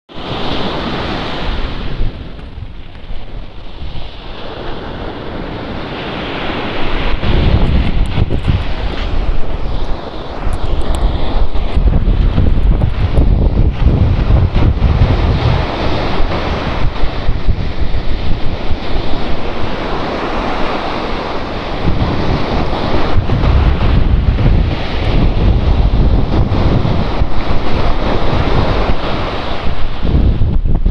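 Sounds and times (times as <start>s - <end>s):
sea waves washing onto beach: 0.1s - 30.9s
wind rumbling on microphone: 0.1s - 30.9s.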